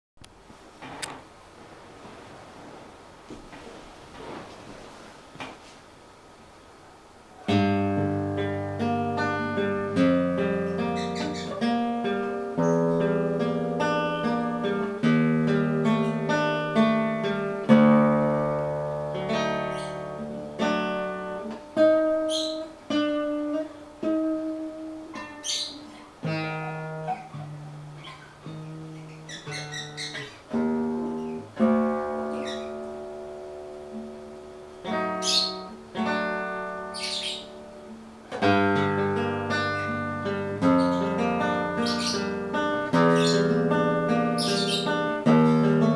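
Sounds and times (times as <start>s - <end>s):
acoustic guitar blues: 7.4s - 45.9s.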